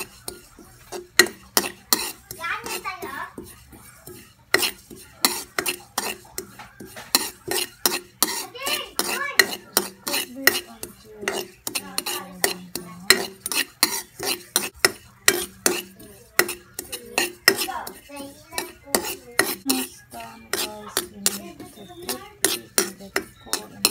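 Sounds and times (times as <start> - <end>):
spatula scraping metal pan: 0.0 - 23.9.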